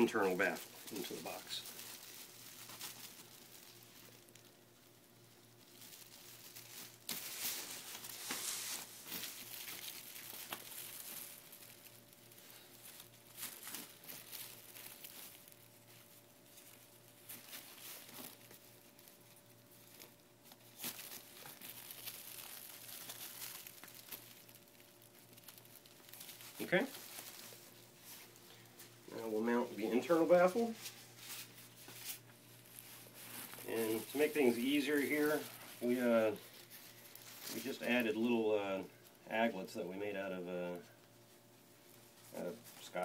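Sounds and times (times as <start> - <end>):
metallic lining crinkling: 0.0 - 43.0.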